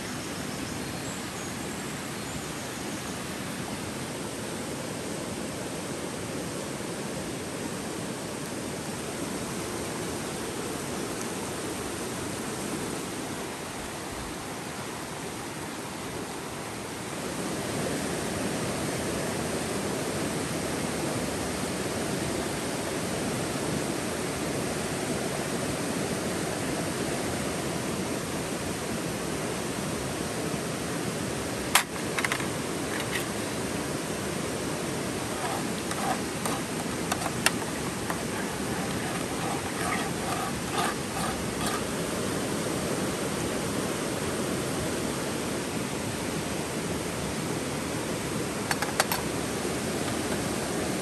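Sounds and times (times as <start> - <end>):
river rushing over rocks: 0.0 - 51.0.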